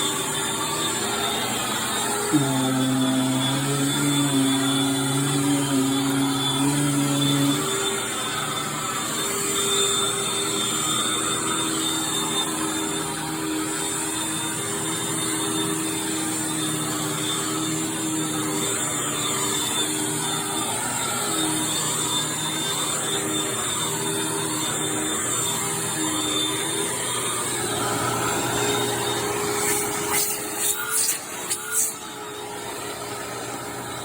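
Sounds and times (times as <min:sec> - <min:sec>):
upright vacuum cleaner running: 0:00.0 - 0:34.0.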